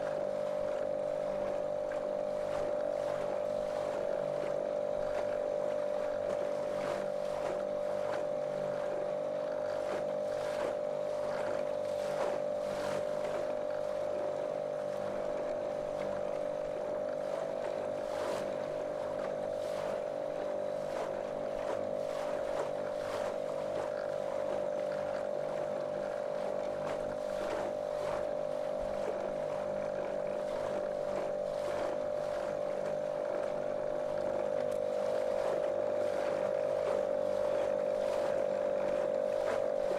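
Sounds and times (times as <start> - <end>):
outboard engine running: 0.0 - 39.9.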